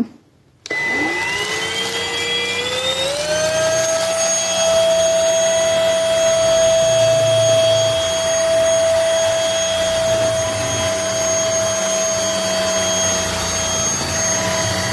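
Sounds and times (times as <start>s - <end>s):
vacuum motor whining: 0.6s - 14.9s.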